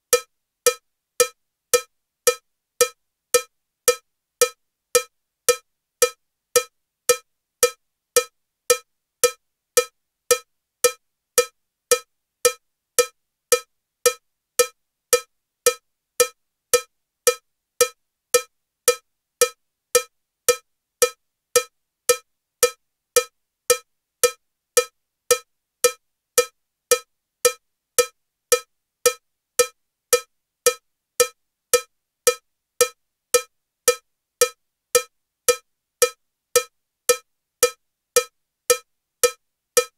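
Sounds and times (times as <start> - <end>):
metronome ticking with cowbell sound: 0.1 - 39.9.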